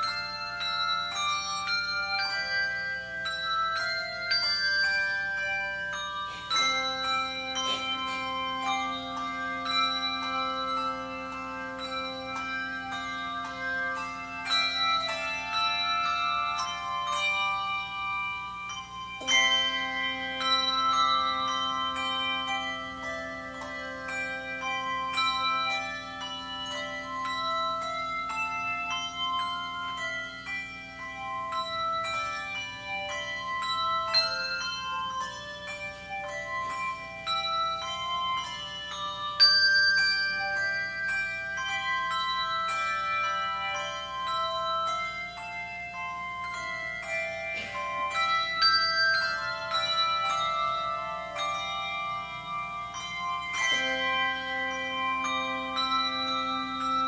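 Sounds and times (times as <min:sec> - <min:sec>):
handbell choir playing: 0:00.0 - 0:57.0.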